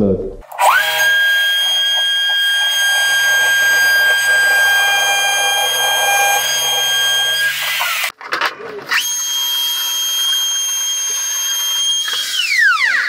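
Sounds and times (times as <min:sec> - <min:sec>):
wood router whining: 0:00.4 - 0:08.2, 0:08.9 - 0:13.0.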